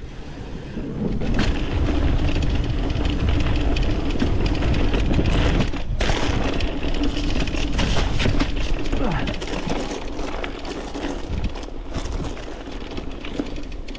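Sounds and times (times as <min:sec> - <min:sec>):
wind buffeting microphone: 0:00.0 - 0:13.7
bike tyres rolling on dirt: 0:00.0 - 0:13.9
bike rattling: 0:00.3 - 0:13.9.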